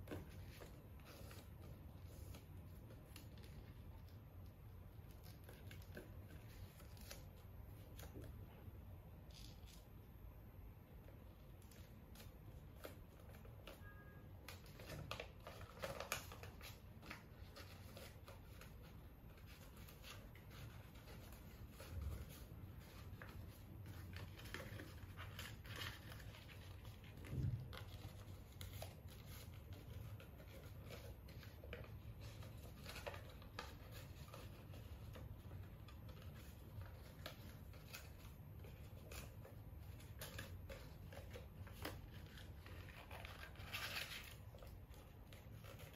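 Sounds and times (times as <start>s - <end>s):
paper rustling and crinkling: 0.0s - 8.5s, 11.2s - 45.9s.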